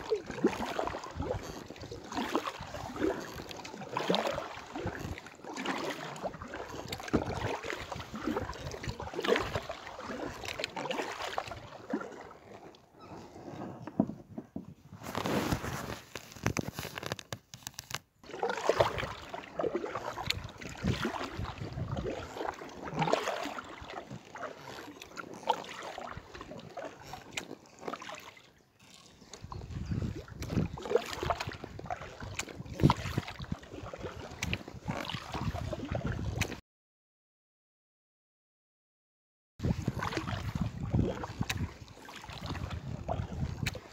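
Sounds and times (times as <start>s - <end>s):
paddle strokes splashing: 0.0s - 14.2s, 18.2s - 36.6s, 39.6s - 43.9s
water sloshing and splashing: 0.0s - 36.6s, 39.6s - 43.9s.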